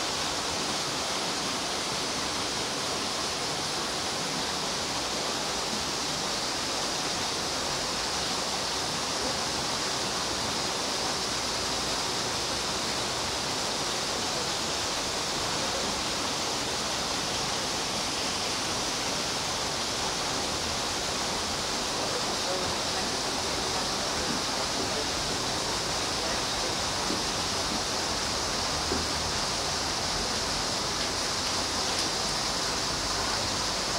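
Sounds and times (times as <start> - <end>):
falling water rushing: 0.0 - 33.9.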